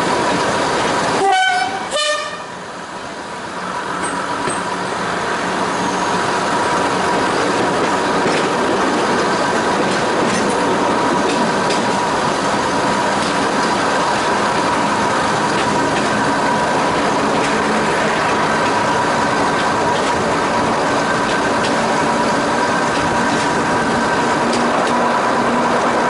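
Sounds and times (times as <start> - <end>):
train engine and wheels rumbling: 0.0 - 26.0.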